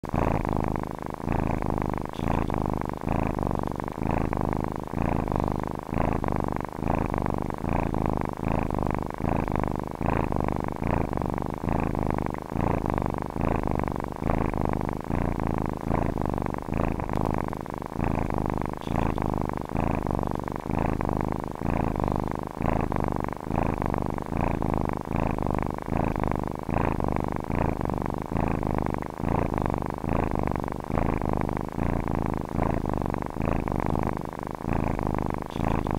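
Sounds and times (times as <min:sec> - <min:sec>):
cat purring: 0:00.0 - 0:35.9.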